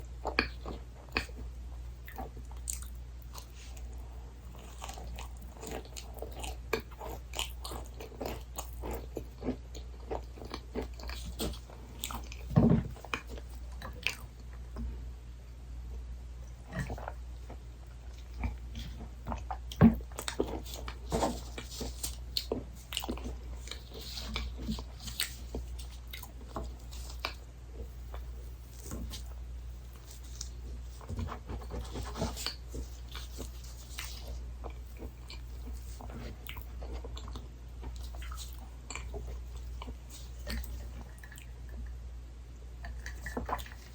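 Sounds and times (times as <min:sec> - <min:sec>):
chewing and biting soft food: 0:00.0 - 0:15.0, 0:15.9 - 0:43.9
steady low hum: 0:00.0 - 0:43.9.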